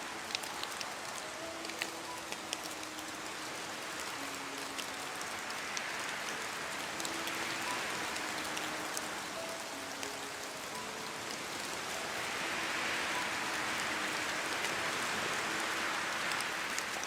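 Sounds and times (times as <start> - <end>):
sharp ticks of raindrops: 0.0 - 17.0
steady rain hiss: 0.0 - 17.0.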